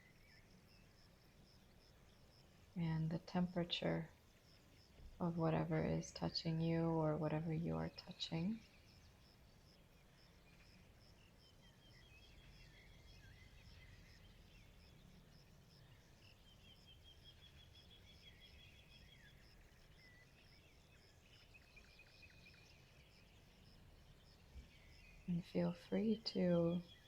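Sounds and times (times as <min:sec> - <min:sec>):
birds chirping and warbling: 0:04.7 - 0:27.0.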